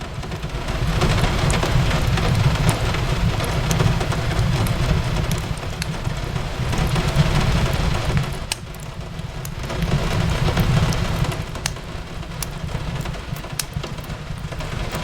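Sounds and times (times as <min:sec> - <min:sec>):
rain on a window: 0:00.0 - 0:15.0
wood fire crackling and popping: 0:00.1 - 0:15.0.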